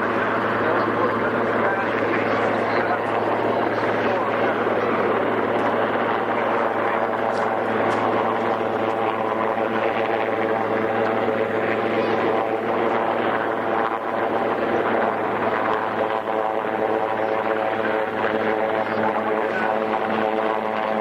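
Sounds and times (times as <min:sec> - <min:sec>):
helicopter hovering: 0:00.0 - 0:21.0.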